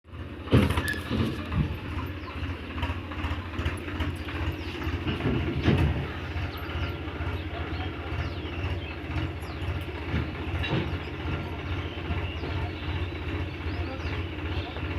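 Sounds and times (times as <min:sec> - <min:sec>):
tractor engine running: 0:00.1 - 0:14.9
rattling and clanking knocks: 0:00.2 - 0:14.9.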